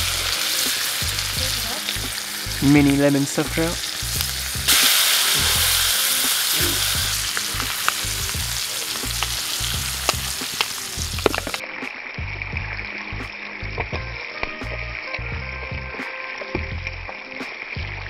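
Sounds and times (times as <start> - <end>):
fish sizzling in a frying pan: 0.0 - 18.0.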